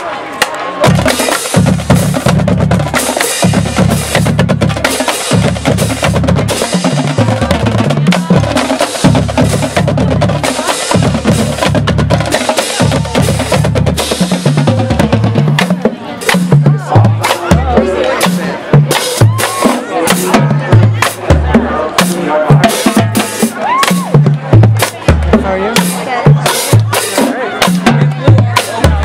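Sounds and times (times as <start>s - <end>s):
marching bass drums: 0.8s - 29.0s.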